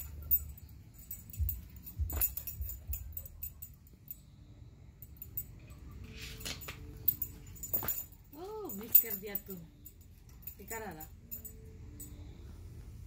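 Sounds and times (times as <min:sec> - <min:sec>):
metal chain collar jingling: 0:00.0 - 0:04.4, 0:05.0 - 0:12.3.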